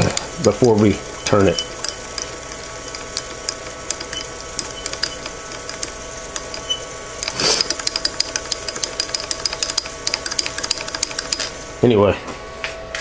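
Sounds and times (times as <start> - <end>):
mechanical clicking and ticking: 0.0 - 11.6
machine hum: 0.0 - 13.0.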